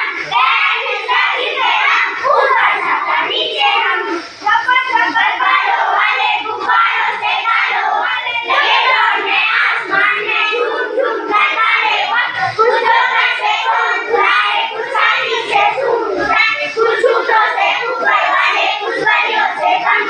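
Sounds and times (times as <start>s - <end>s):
children singing in unison: 0.0s - 20.0s.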